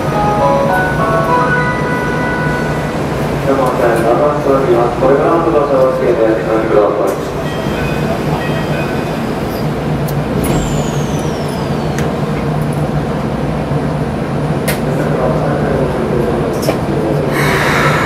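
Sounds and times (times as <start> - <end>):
train equipment hum: 0.0 - 15.1.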